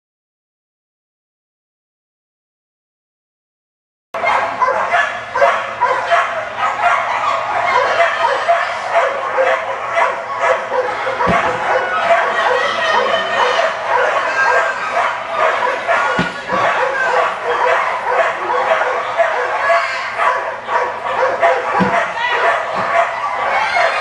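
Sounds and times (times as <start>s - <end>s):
many dogs barking: 4.2s - 24.0s.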